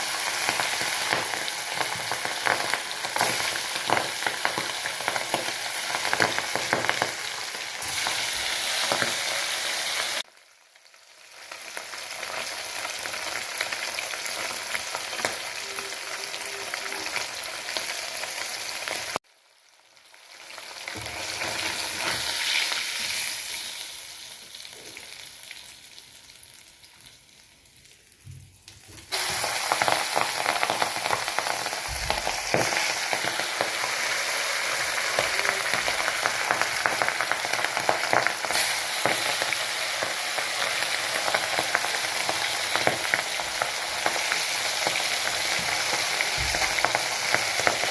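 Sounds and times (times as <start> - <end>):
fish deep-frying in oil: 0.0 - 47.9.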